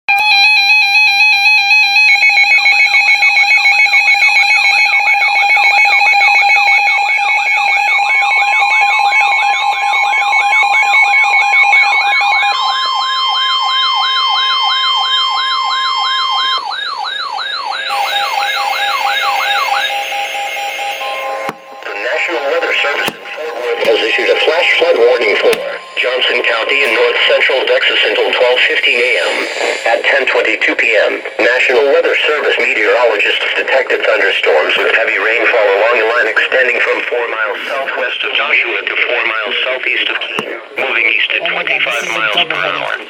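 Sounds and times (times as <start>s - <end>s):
wailing siren: 0.1s - 34.6s
warbling alarm tones: 0.1s - 36.7s.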